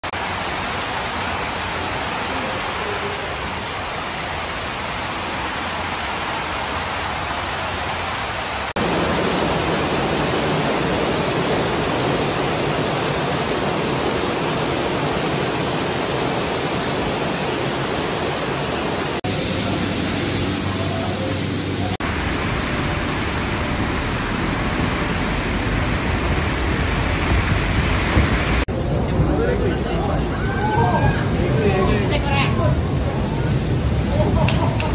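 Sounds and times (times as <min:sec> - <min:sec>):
water cascading down stairs: 0:00.0 - 0:19.7, 0:21.9 - 0:34.9
floodwater rushing: 0:00.0 - 0:34.9
heavy rain: 0:00.0 - 0:34.9.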